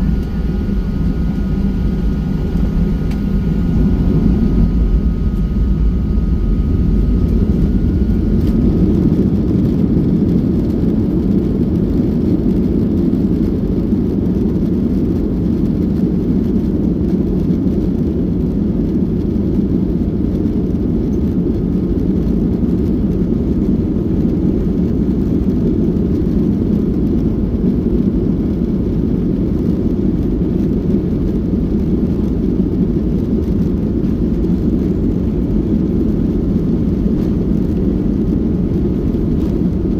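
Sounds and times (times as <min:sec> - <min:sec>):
jet engine and airflow rumble: 0:00.0 - 0:39.9.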